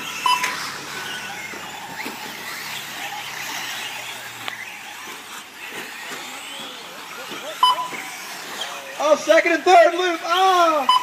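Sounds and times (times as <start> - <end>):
faint motor whines: 0.0 - 11.0
tyres and motors hissing: 0.0 - 11.0.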